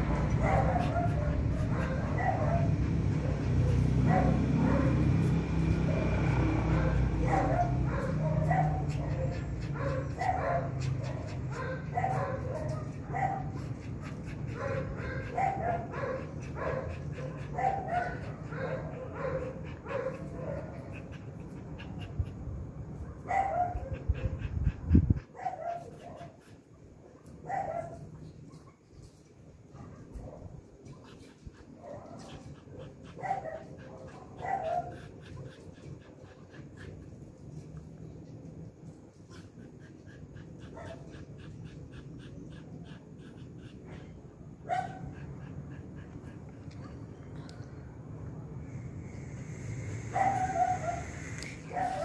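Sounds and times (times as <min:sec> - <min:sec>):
dogs barking: 0:00.0 - 0:22.4, 0:23.0 - 0:26.5, 0:27.4 - 0:28.2, 0:29.7 - 0:37.2, 0:39.1 - 0:47.0, 0:49.8 - 0:52.0.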